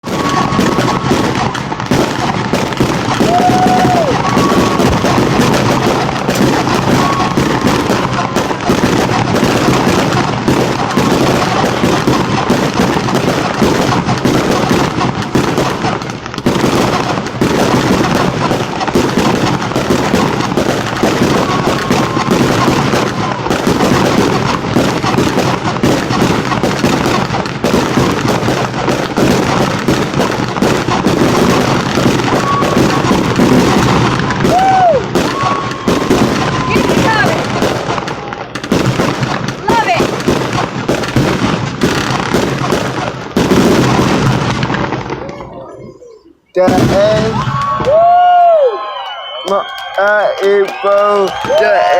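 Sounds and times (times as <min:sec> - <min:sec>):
fireworks banging and crackling: 0:00.0 - 0:51.9.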